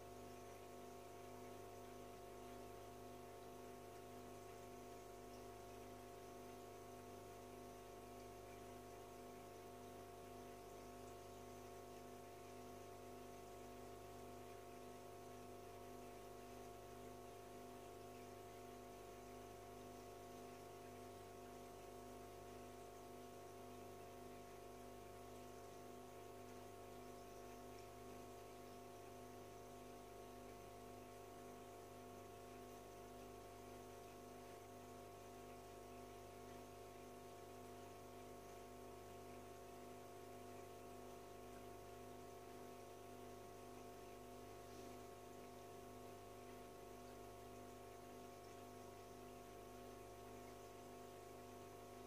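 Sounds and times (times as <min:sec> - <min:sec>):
faint aquarium equipment hum: 0:00.0 - 0:52.0.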